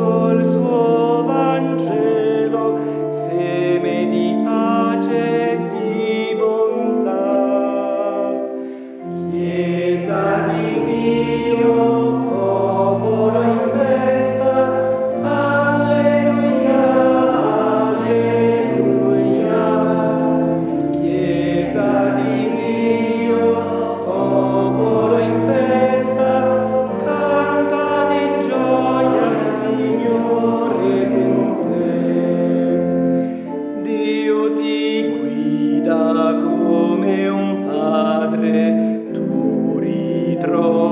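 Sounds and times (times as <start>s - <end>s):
choir singing: 0.0s - 40.9s
sustained accompaniment: 0.0s - 40.9s.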